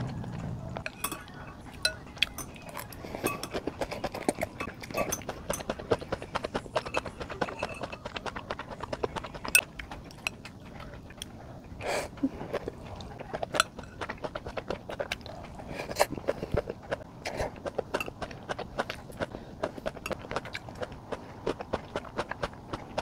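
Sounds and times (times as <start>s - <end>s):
crunchy chewing of raw vegetables: 0.0s - 23.0s.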